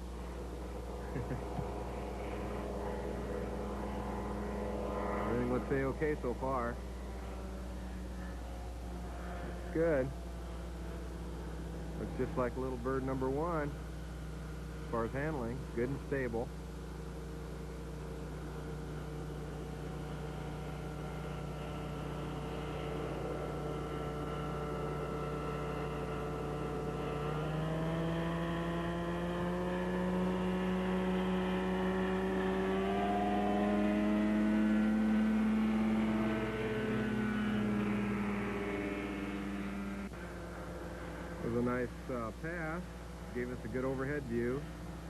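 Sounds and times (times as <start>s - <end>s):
ultralight aircraft engine droning: 0.0s - 45.0s.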